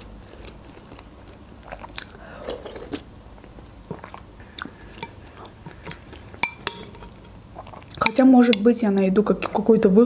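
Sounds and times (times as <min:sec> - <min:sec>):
chewing: 0:00.0 - 0:08.1.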